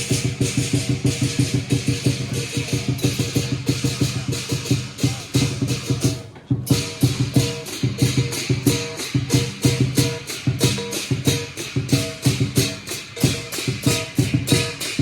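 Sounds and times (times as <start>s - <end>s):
big drum beating: 0.0s - 15.0s
cymbals clashing: 0.0s - 15.0s
gong: 0.0s - 15.0s.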